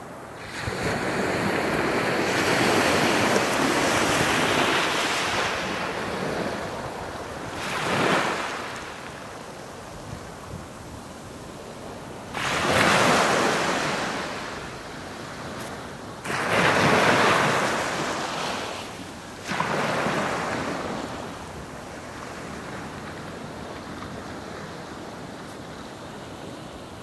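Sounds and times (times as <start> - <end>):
low hiss of surf: 0.0 - 27.0
small waves breaking on sand: 0.4 - 27.0.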